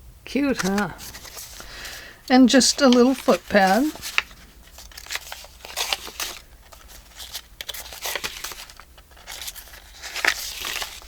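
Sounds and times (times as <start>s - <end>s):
paper pages rustling: 0.5s - 11.0s.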